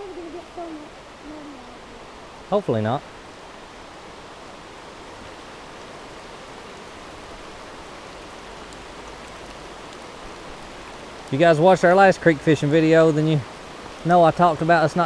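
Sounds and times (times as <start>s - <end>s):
heavy rain on a creek: 0.0s - 15.0s.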